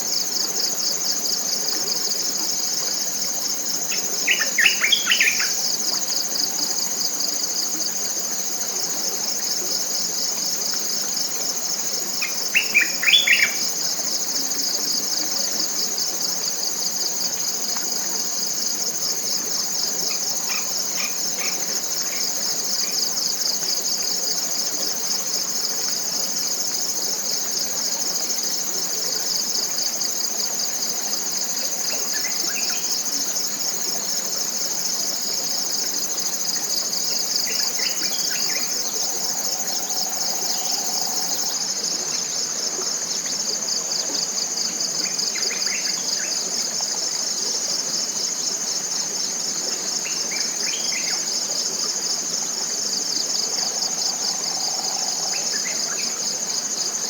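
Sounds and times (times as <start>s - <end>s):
pulsing insect chorus: 0.0s - 57.0s.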